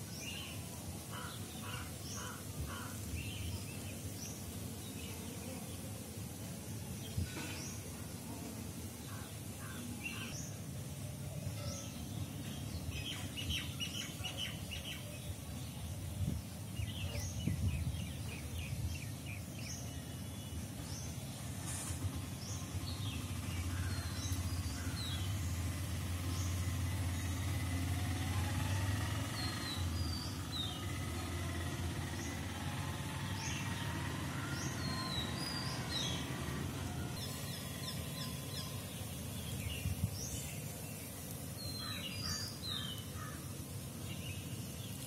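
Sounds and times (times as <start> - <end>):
birds chirping and trilling: 8.9 - 45.0.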